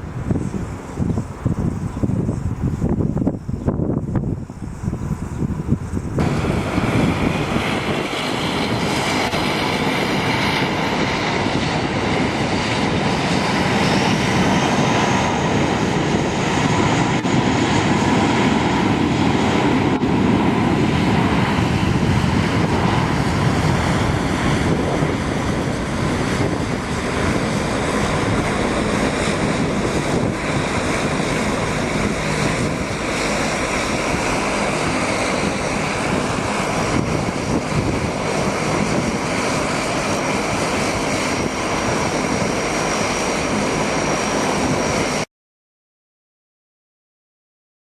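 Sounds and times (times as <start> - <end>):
high-pitched engine whine: 0.0 - 45.2
airliner engines running: 0.0 - 45.3.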